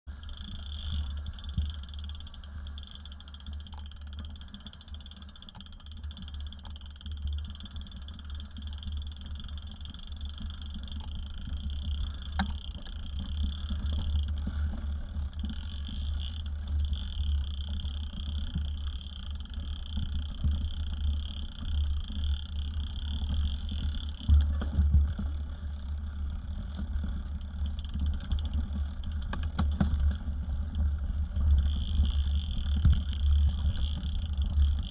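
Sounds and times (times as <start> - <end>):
bike rolling over dirt trail: 0.2 - 34.9.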